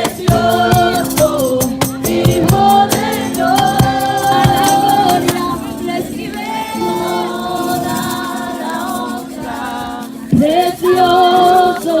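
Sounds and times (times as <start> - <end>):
people singing a worship song: 0.0 - 12.0.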